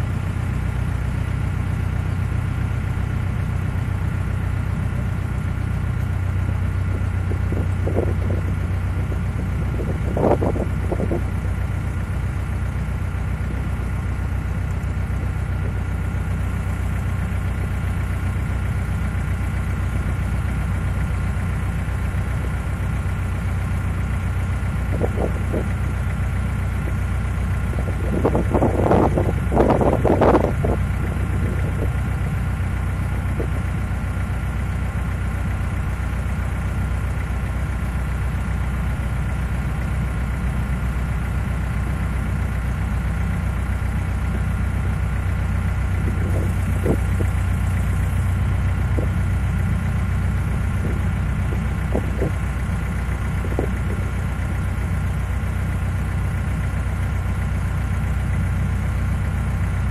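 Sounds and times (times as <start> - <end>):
diesel engine thrumming: 0.0 - 59.9.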